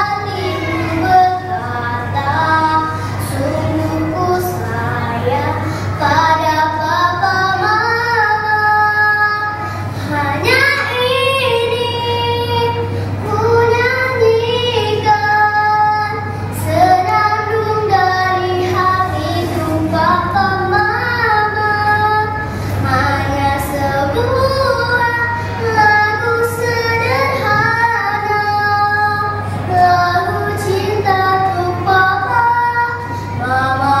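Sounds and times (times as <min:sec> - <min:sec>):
girl singing: 0:00.0 - 0:34.0.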